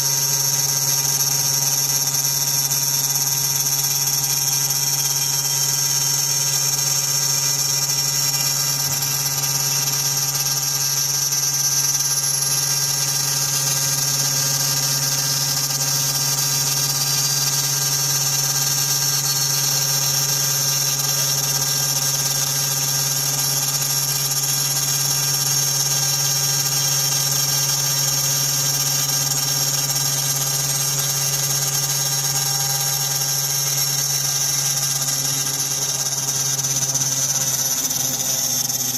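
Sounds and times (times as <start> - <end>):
router spindle humming and whining: 0.0 - 38.9.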